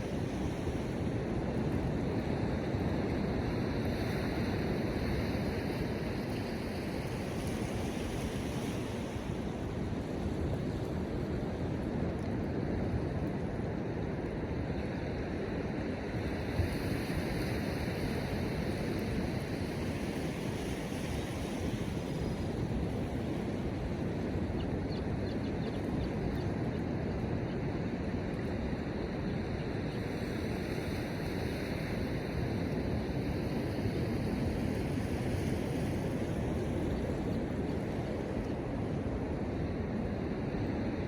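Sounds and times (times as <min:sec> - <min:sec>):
ocean surf: 0:00.0 - 0:24.6, 0:27.1 - 0:41.0
wind: 0:00.0 - 0:41.0
wind rumbling on microphone: 0:00.0 - 0:41.0.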